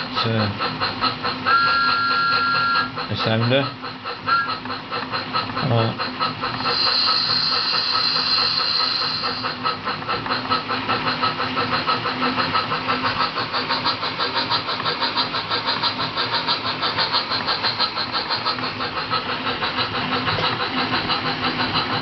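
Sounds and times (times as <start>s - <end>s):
steam locomotive chuffing from speaker: 0.0s - 22.0s.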